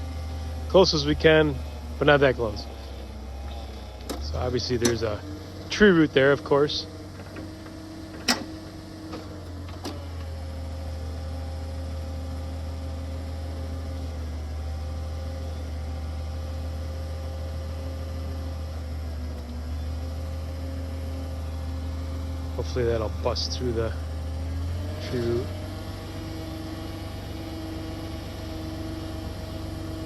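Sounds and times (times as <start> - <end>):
drilling rig engine and auger: 0.0 - 30.0.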